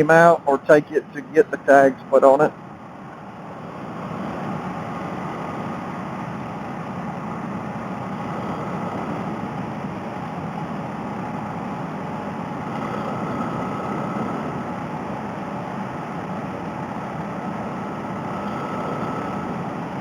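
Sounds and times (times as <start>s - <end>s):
motorcycle engine droning: 0.0s - 20.0s
riding wind rush: 0.0s - 20.0s.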